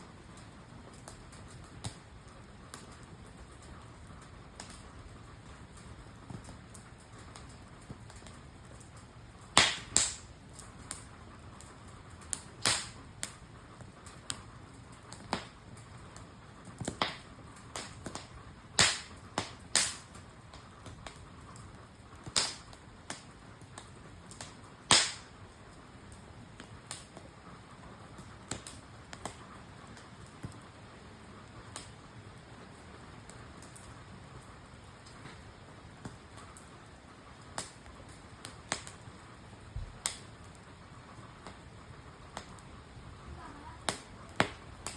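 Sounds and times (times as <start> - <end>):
campfire wood crackling: 0.0 - 44.9
soft steady hiss: 0.0 - 44.9.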